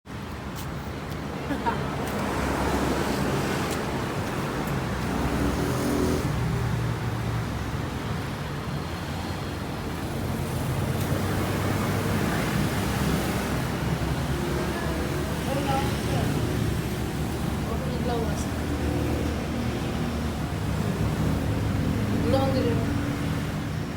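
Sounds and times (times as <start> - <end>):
motor vehicle rumbling: 0.1 - 23.9.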